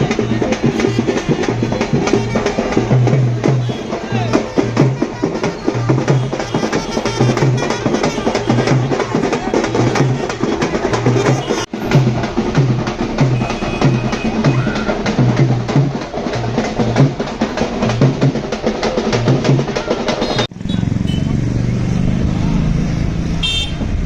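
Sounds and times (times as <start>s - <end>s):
drums beating steady rhythm: 0.0s - 22.8s.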